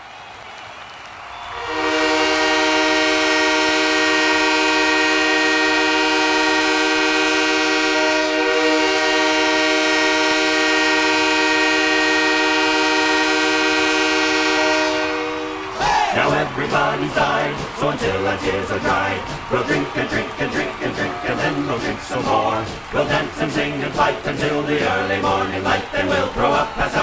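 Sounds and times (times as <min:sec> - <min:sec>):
arena crowd noise: 0:00.0 - 0:27.0
goal horn blast: 0:01.5 - 0:24.2.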